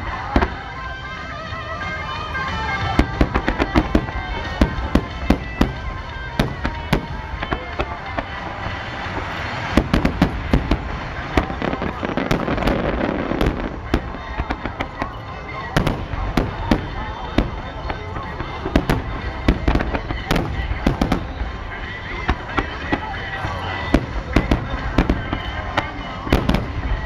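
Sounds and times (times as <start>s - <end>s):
fireworks bursting: 0.0s - 27.0s
steady rush of noise: 0.0s - 27.0s.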